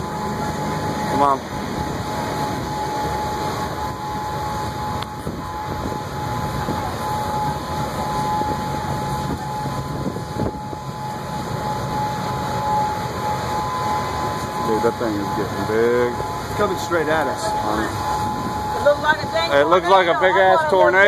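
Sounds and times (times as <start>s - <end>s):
thin high tone: 0.0s - 21.0s
wind buffeting microphone: 0.0s - 21.0s.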